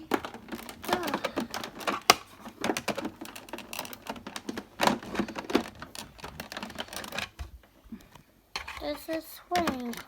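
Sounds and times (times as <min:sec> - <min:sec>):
plastic toy clicking and knocking: 0:00.0 - 0:10.0.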